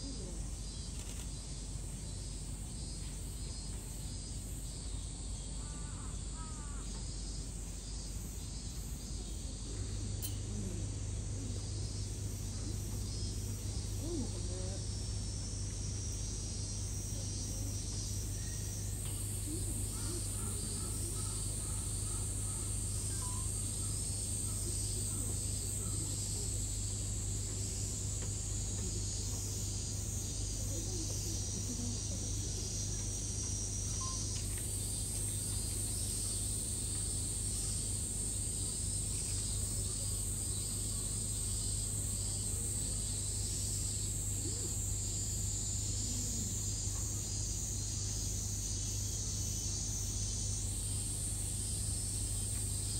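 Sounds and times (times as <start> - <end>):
faint distant voices: 0.0 - 1.2, 8.4 - 52.9
cicadas droning: 0.0 - 52.9
steady low hum: 0.0 - 52.9.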